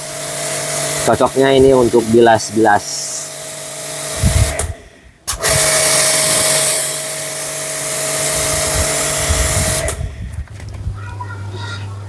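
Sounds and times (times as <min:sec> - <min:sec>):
water jet hissing: 0:00.0 - 0:10.0
pressure washer motor and pump whine: 0:00.0 - 0:10.4.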